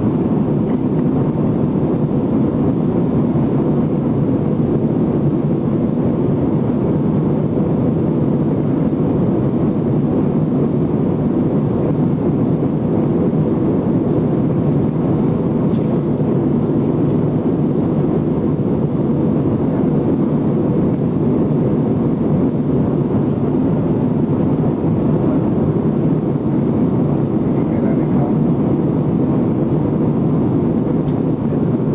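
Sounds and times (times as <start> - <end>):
jet engine noise inside cabin: 0.0 - 31.9.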